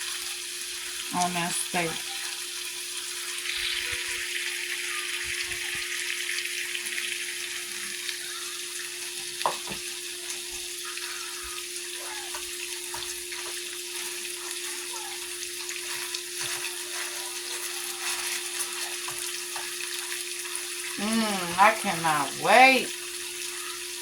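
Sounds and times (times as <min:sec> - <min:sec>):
steak sizzling in a pan: 0:00.0 - 0:24.0.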